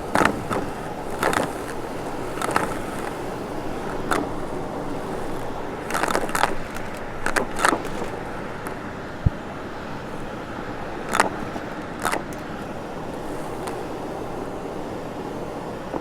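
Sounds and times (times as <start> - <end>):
scratchy bursts: 0.0 - 14.8
vacuum cleaner running: 0.0 - 16.0.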